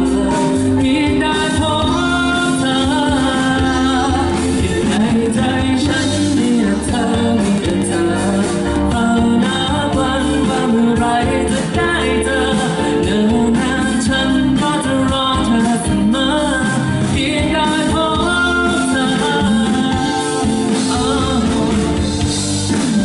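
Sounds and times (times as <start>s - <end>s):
live band playing pop: 0.0s - 23.0s
person singing into microphone: 0.0s - 23.0s.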